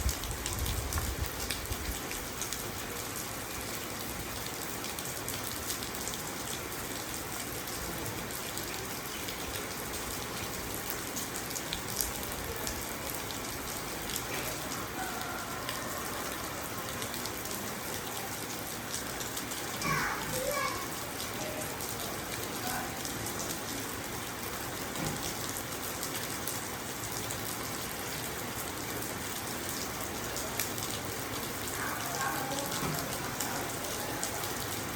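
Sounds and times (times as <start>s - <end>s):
rain on car windows: 0.0s - 34.9s.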